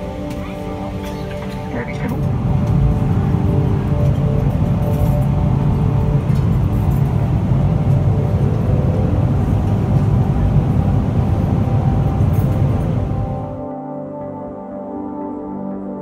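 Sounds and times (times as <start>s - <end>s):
airplane cabin drone: 0.0s - 15.5s.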